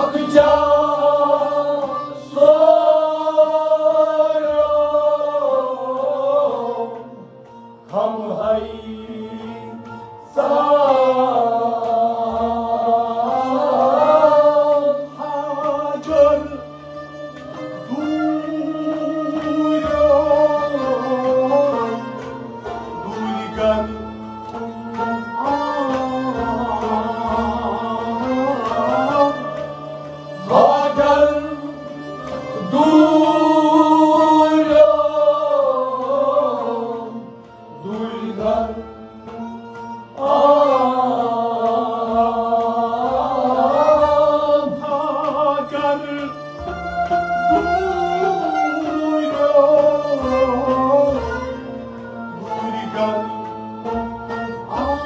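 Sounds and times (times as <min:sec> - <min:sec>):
man singing: 0:00.0 - 0:07.3, 0:07.9 - 0:16.8, 0:17.6 - 0:22.2, 0:22.8 - 0:29.7, 0:30.4 - 0:51.6, 0:52.3 - 0:55.0
harmonium: 0:00.0 - 0:55.0
long-necked string instrument: 0:00.0 - 0:55.0.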